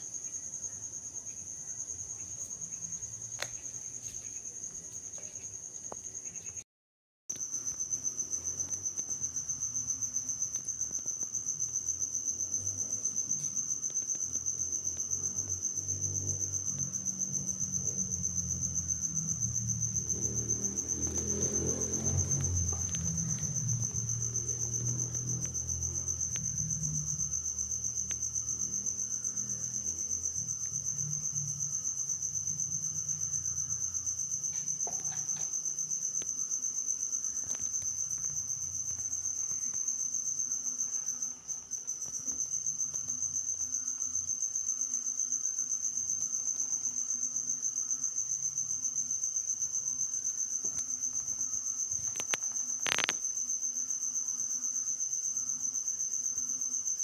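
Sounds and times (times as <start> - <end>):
cricket trilling: 7.3 - 57.0.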